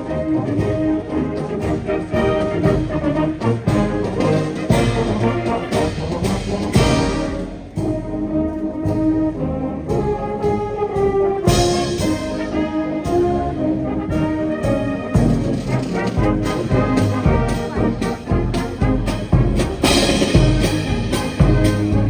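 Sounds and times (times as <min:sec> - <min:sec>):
brass and saxophones playing: 0:00.0 - 0:22.0
steady drum beat: 0:00.4 - 0:08.2, 0:09.9 - 0:22.0.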